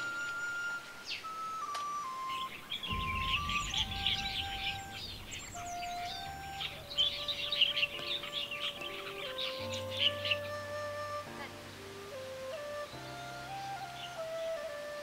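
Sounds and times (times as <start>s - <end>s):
slow background music: 0.0s - 15.0s
songbirds chirping: 0.0s - 15.0s.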